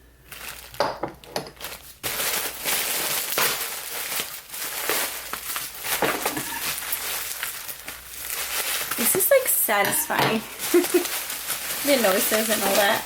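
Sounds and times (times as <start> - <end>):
packaging crinkling: 0.2 - 13.0.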